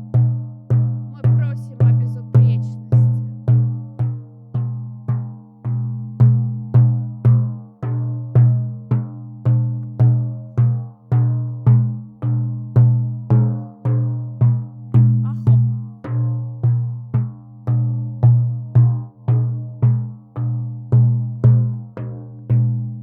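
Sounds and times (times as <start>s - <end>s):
frame drum beating: 0.0s - 23.0s.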